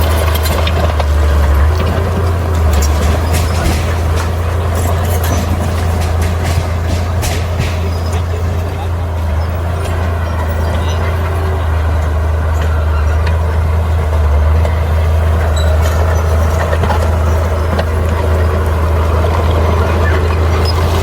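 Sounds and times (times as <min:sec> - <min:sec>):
heavy diesel engine droning: 0:00.0 - 0:21.0.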